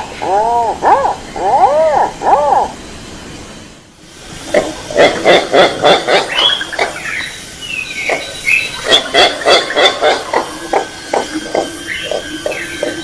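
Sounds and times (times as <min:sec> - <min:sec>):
bird croaking call: 0:00.0 - 0:02.8, 0:04.6 - 0:13.0.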